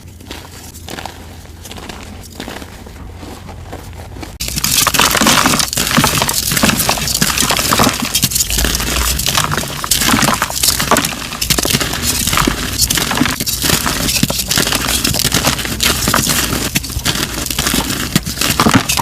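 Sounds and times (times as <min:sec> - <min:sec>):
chalk crunching and crackling: 0:00.0 - 0:19.0.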